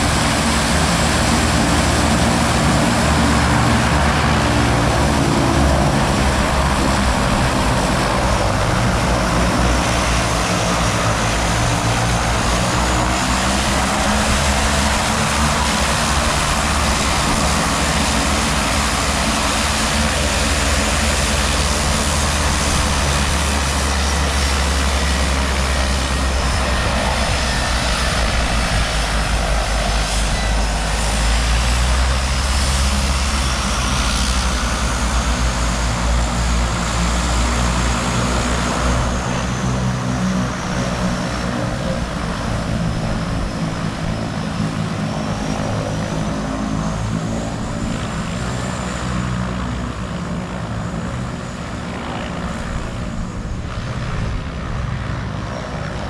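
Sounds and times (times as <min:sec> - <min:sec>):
propeller engines droning: 0:00.0 - 0:56.0.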